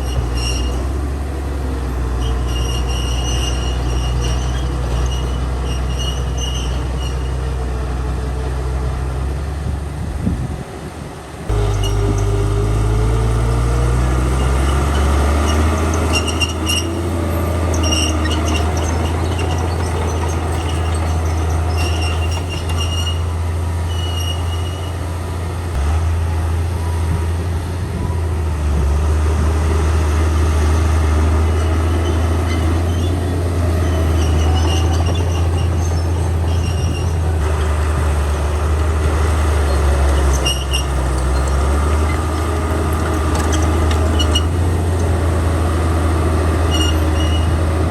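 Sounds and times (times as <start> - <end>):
steel tracks squealing: 0.0 - 9.4, 11.3 - 25.8, 26.8 - 47.9
diesel engine running low: 0.0 - 47.9.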